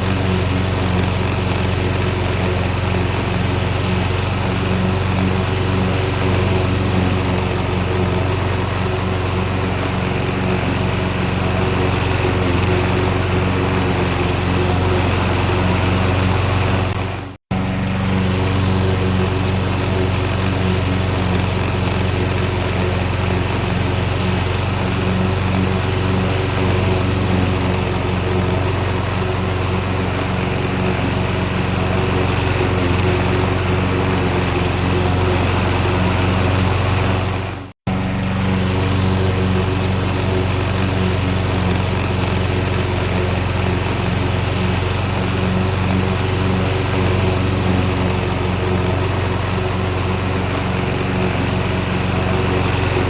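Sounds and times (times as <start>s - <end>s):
lawnmower engine running: 0.0s - 53.0s.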